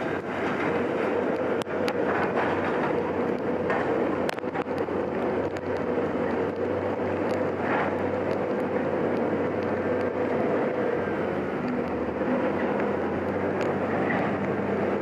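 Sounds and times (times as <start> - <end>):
heavy machine engine humming: 0.0 - 15.0.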